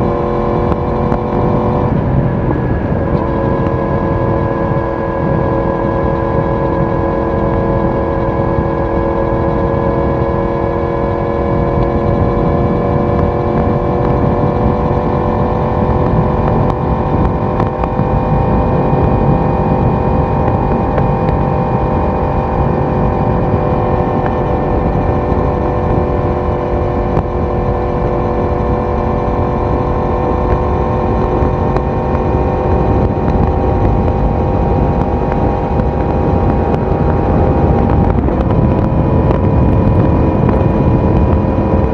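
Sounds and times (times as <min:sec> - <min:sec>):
motorcycle engine cruising: 0:00.0 - 0:41.9
road and wind noise: 0:00.0 - 0:41.9.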